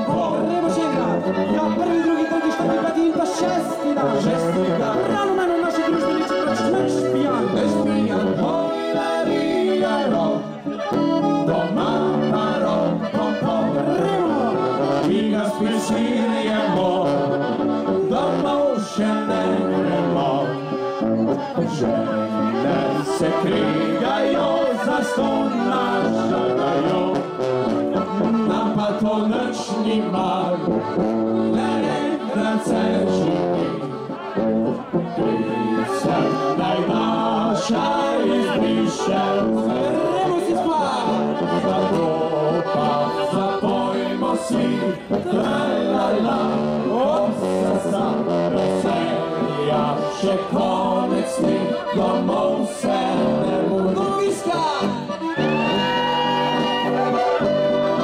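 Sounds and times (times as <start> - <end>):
accordion: 0.0 - 58.0
folk band playing dance tune: 0.0 - 58.0.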